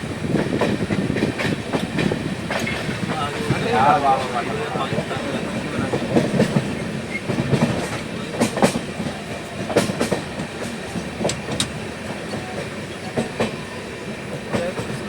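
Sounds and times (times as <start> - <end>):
train rumble: 0.0 - 15.0
wheels clicking over rail joints: 0.3 - 13.6.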